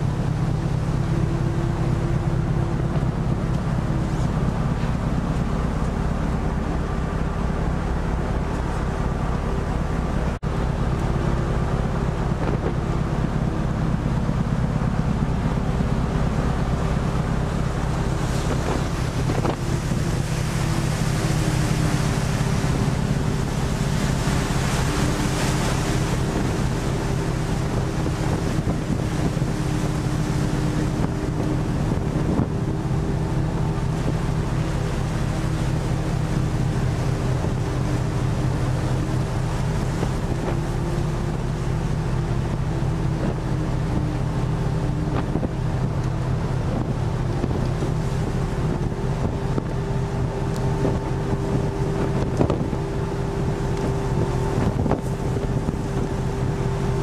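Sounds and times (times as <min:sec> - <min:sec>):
boat engine humming: 0:00.0 - 0:57.0
rough sea washing: 0:00.0 - 0:57.0
wind buffeting microphone: 0:00.0 - 0:57.0.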